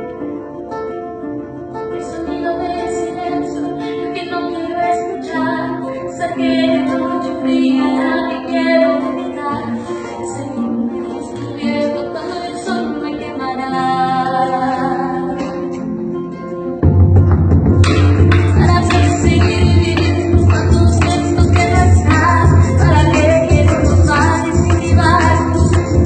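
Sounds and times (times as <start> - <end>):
instrumental backing music: 0.0 - 26.0
woman singing: 2.0 - 15.7, 18.2 - 26.0.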